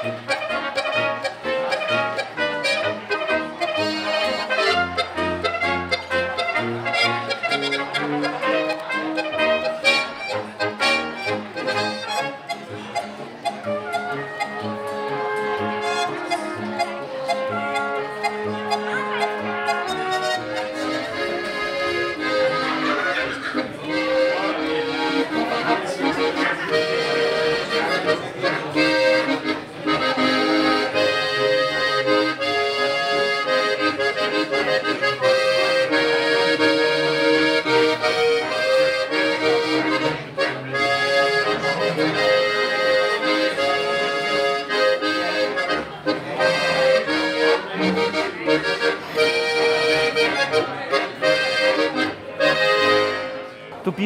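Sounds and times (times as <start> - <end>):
accordion dance music: 0.0 - 54.0.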